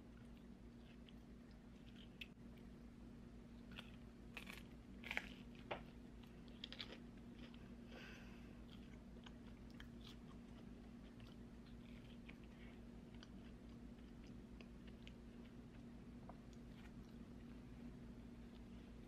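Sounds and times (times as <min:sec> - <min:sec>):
wet chewing: 0:00.0 - 0:02.7, 0:03.5 - 0:07.7, 0:08.6 - 0:17.8
faint steady hum: 0:00.0 - 0:19.0.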